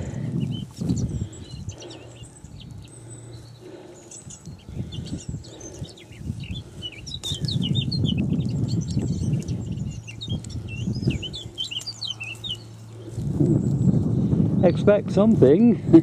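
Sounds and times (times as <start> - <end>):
low rumbling noise: 0.0 - 16.0
small birds chirping: 0.0 - 16.0.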